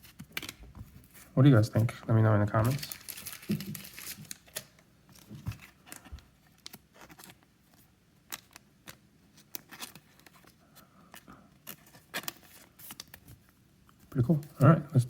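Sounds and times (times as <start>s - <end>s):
cards clicking and rustling: 2.6s - 14.8s.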